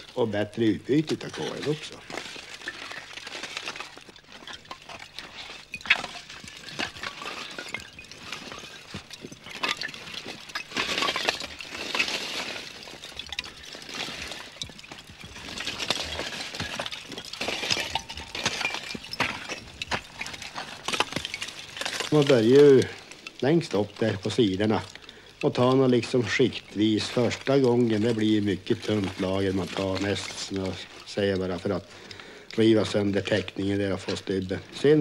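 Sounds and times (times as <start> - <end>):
charcoal clinking: 0.0 - 35.0
rakes scraping charcoal: 0.0 - 35.0.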